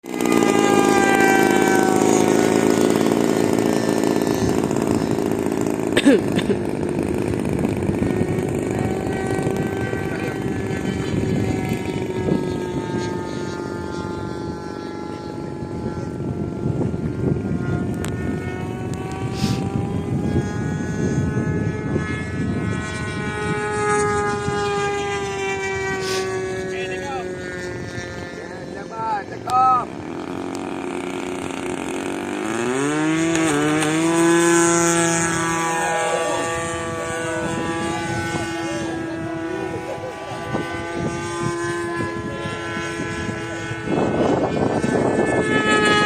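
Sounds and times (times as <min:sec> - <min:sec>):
model aircraft engine buzzing: 0:00.0 - 0:46.0.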